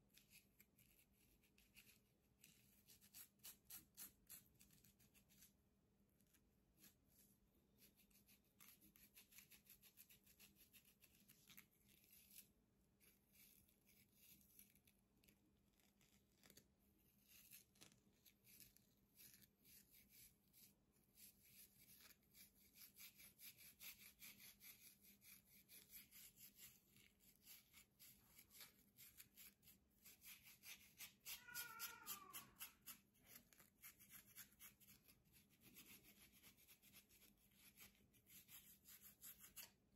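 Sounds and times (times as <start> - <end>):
comb scratching scalp: 0.0 - 5.6, 6.2 - 39.9.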